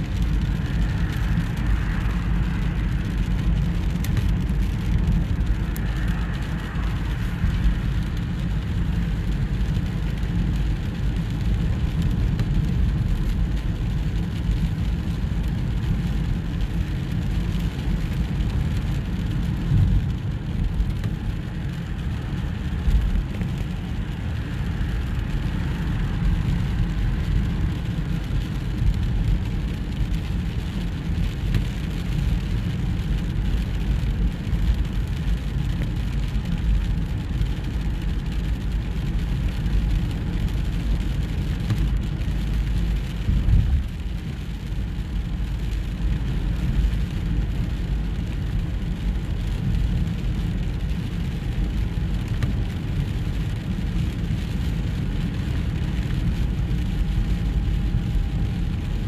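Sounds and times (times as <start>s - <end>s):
car driving on wet road: 0.0s - 59.0s
rain on windscreen: 0.0s - 59.0s.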